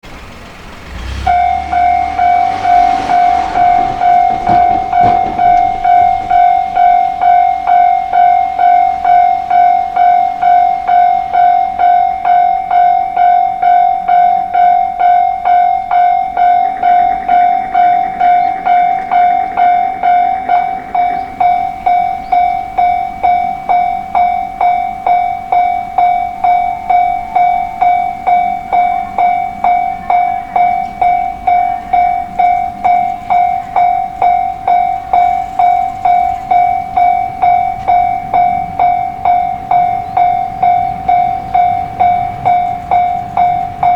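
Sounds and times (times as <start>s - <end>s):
level crossing warning bell: 0.8s - 43.9s.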